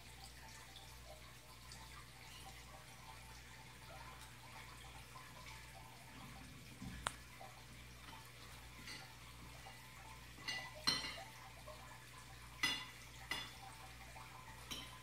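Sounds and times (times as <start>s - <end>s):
filter pump humming: 0.0s - 15.0s
water dripping into aquarium: 0.0s - 15.0s.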